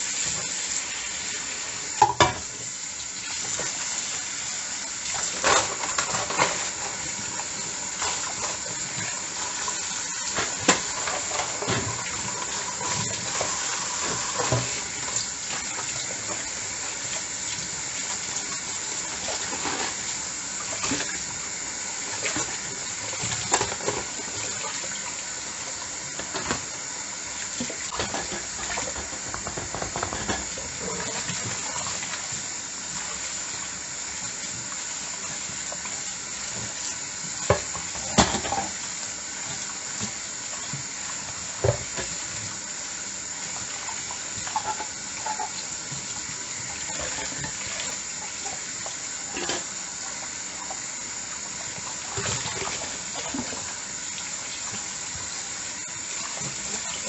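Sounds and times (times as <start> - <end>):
tap water running into sink: 0.0 - 57.0.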